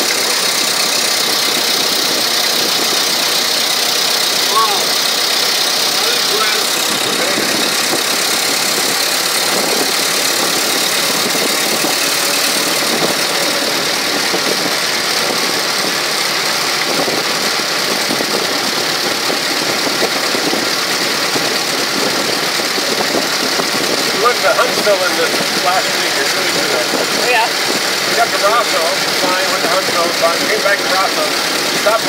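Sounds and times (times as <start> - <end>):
car engine running: 0.0 - 32.0
road and wind noise: 0.0 - 32.0.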